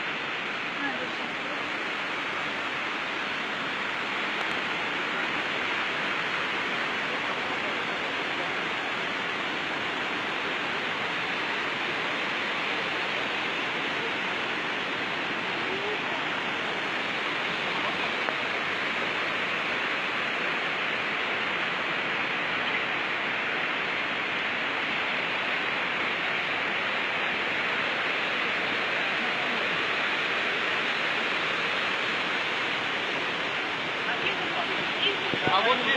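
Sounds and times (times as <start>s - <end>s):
river rushing over rocks: 0.0s - 35.9s.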